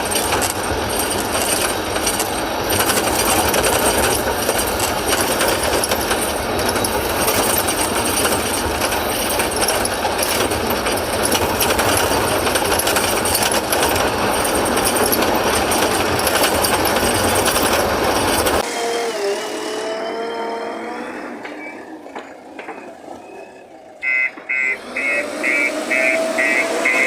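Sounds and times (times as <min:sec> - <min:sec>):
heavy diesel engine rattling: 0:00.0 - 0:18.6, 0:21.5 - 0:27.0.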